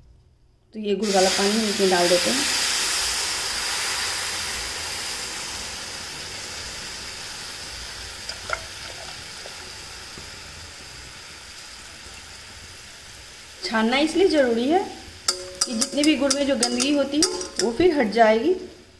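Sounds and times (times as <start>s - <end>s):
liquid sizzling in hot pan: 1.0s - 18.9s.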